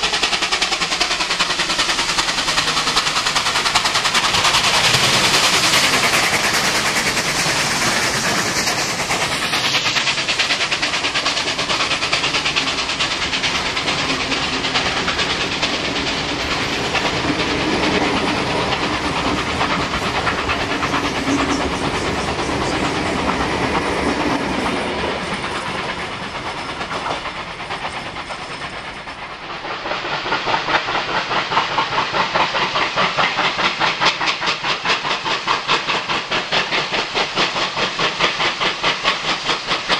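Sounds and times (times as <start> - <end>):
steam hiss: 0.0 - 39.9
steam locomotive exhaust chatter: 0.0 - 39.9.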